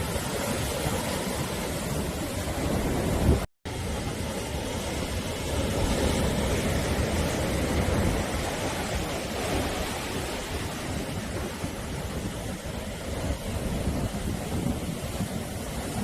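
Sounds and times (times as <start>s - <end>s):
sea waves washing onto shore: 0.0s - 16.0s.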